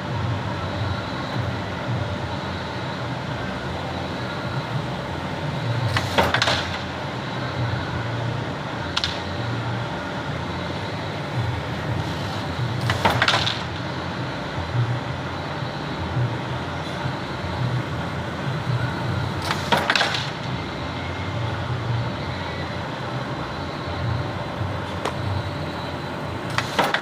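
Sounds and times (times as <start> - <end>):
factory machinery humming: 0.0 - 27.0.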